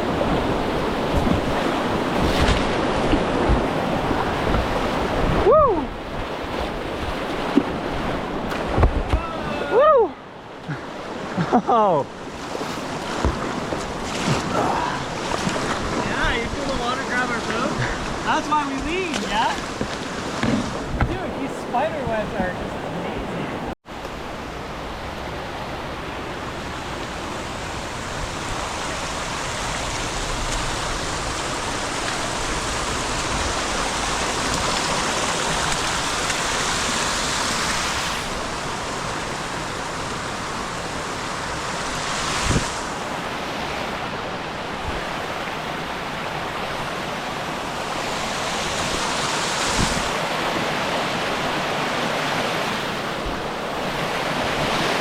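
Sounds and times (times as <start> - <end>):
rushing whitewater: 0.0 - 55.0.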